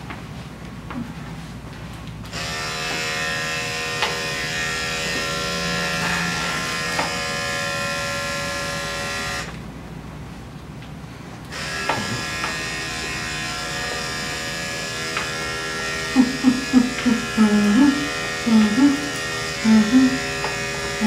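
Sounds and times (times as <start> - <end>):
electric clipper buzzing: 2.3 - 9.6, 11.5 - 21.0.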